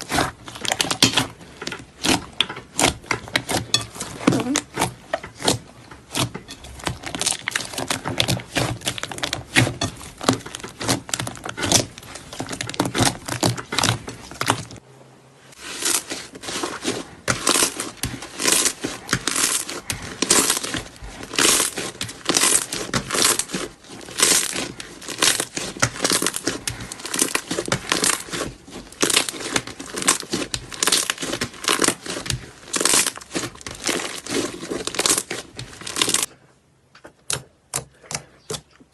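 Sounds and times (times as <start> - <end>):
crunchy slime being squeezed: 0.0 - 14.8, 15.6 - 36.3.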